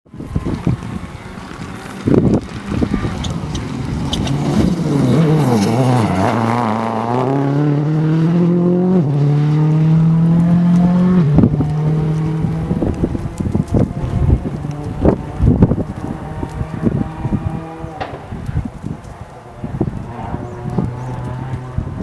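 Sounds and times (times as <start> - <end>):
rally car engine revving: 0.1 - 22.0
gear change: 0.2 - 22.0.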